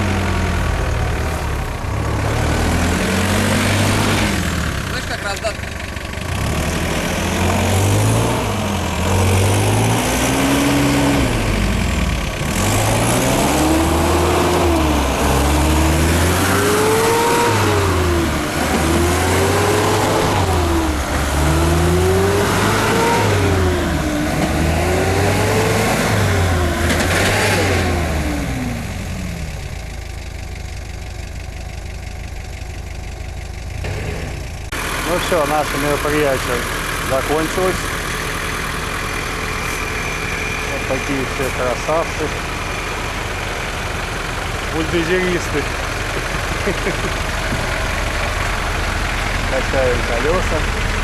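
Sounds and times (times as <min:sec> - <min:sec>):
off-road vehicle engine revving: 0:00.0 - 0:51.0.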